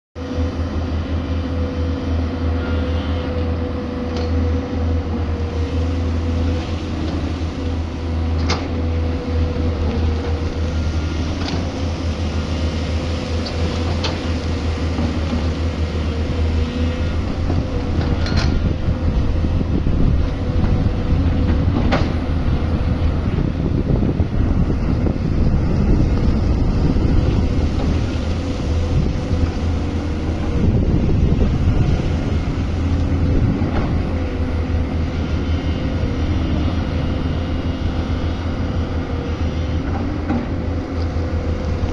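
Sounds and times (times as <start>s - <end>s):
constant whine: 0.2s - 41.9s
excavator diesel engine running: 0.2s - 41.9s.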